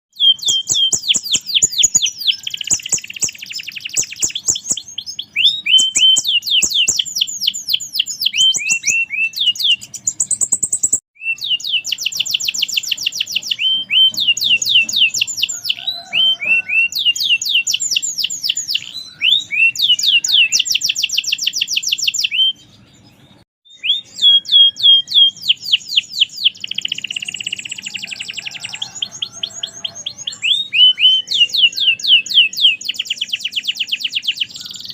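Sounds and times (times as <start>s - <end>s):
canary singing rolling trills: 0.1s - 34.9s.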